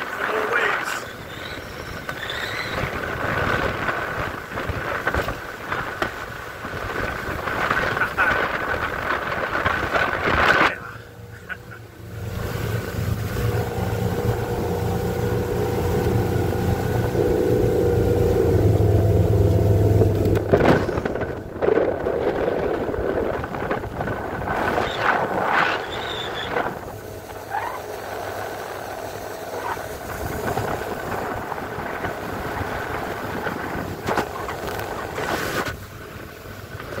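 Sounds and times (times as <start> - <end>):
motorboat engine drone: 0.0 - 37.0
water rushing: 0.0 - 37.0
wind: 0.0 - 37.0.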